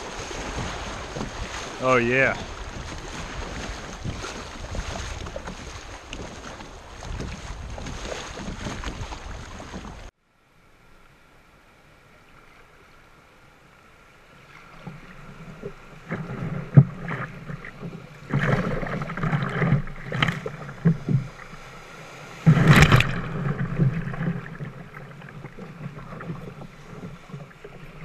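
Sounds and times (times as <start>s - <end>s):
paddle splashes in water: 0.0s - 10.1s, 14.3s - 28.0s.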